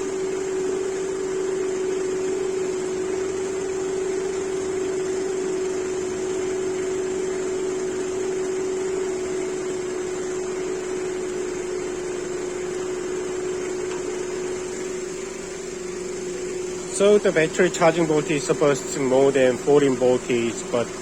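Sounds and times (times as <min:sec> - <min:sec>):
car engine idling: 0:00.0 - 0:21.0
steady whine: 0:00.0 - 0:21.0.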